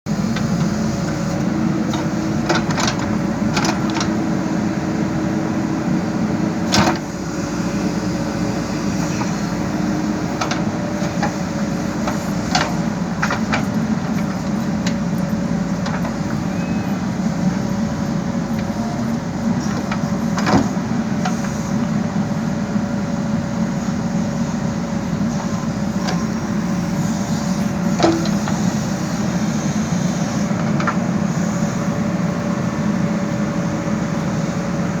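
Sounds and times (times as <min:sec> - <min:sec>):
diesel engine running: 0:00.1 - 0:35.0.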